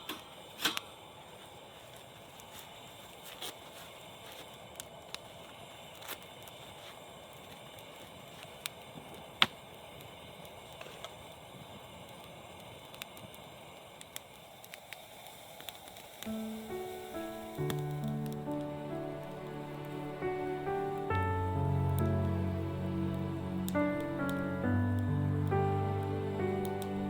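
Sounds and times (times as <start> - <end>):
campfire hissing: 0.0 - 27.0
fire crackles and pops: 0.0 - 27.0.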